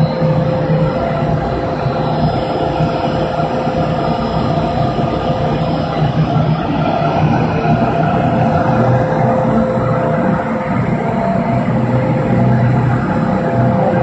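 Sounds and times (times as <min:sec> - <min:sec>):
constant tone: 0:00.0 - 0:14.0
machine mechanical hum: 0:00.0 - 0:14.0.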